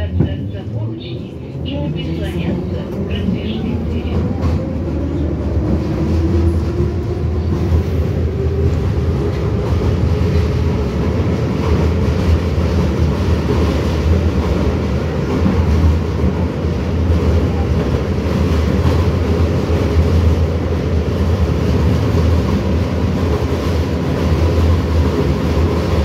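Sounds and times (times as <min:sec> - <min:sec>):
metro train rumbling: 0:00.0 - 0:26.0.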